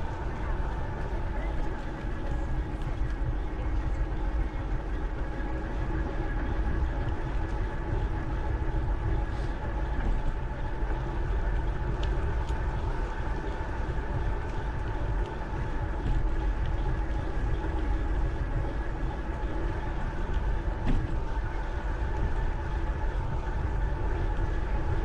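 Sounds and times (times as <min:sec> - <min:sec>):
bicycle rolling noise: 0:00.0 - 0:25.0.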